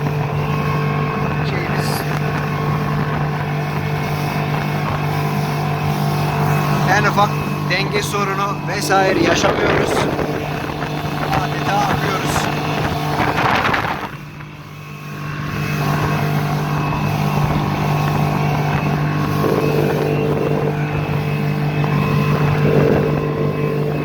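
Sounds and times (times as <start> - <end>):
outboard motor running at high revs: 0.0 - 24.0.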